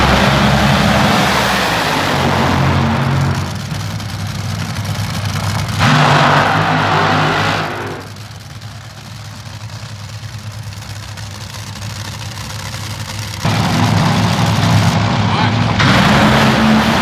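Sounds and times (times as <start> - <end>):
dragster engines roaring and idling: 0.0 - 17.0.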